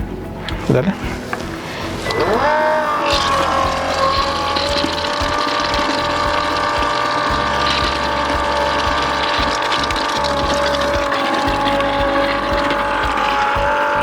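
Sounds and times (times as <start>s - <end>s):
electric pump whining: 0.0s - 14.0s.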